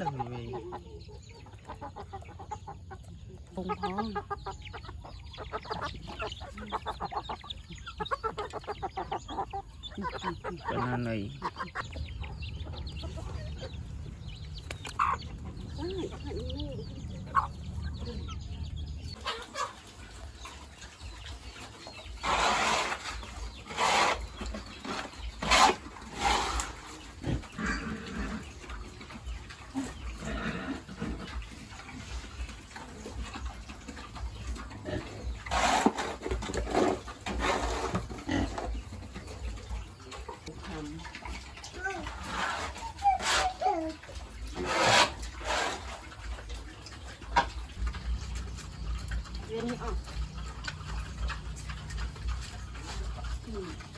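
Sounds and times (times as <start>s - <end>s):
chickens clucking: 0.0s - 53.9s
pigs grunting and squealing: 0.0s - 53.9s.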